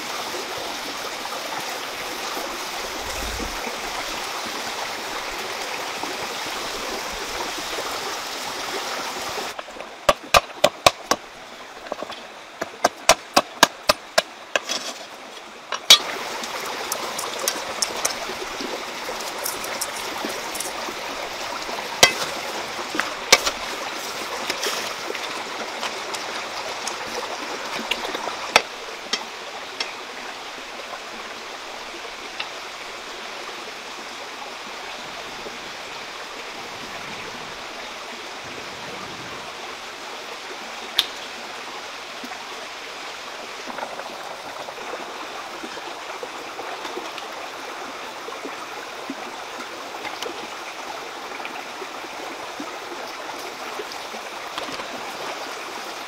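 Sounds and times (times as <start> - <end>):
flowing stream: 0.0 - 56.0.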